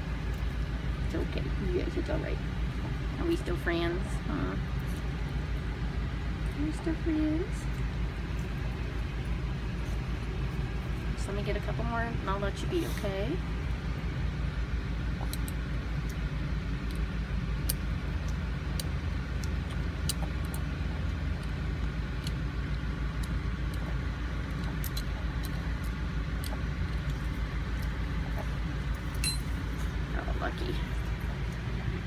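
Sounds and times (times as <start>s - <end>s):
low mechanical rumble: 0.0s - 32.0s.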